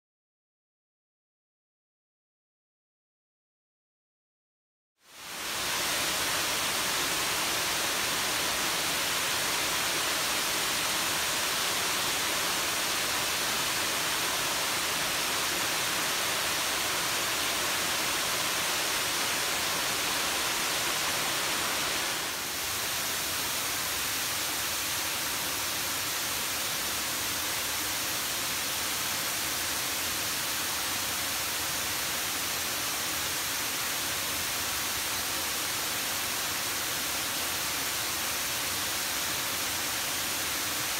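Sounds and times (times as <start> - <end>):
water rushing over dam spillway: 5.1 - 40.9.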